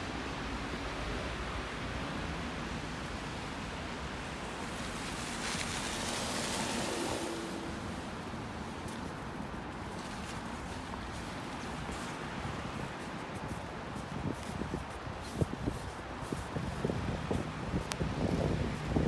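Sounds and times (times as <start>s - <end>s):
rushing wind of a snowstorm: 0.1s - 19.0s.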